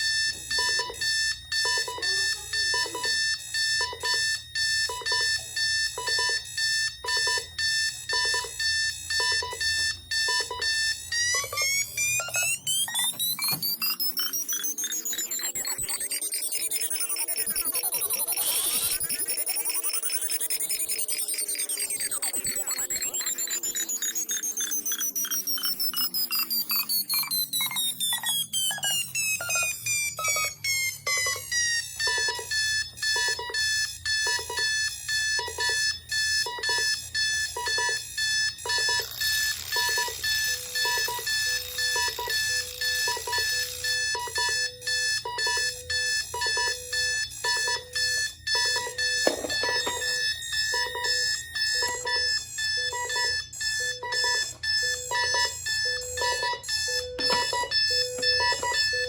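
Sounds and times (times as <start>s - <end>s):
alarm clock pulsing: 0.0s - 59.0s.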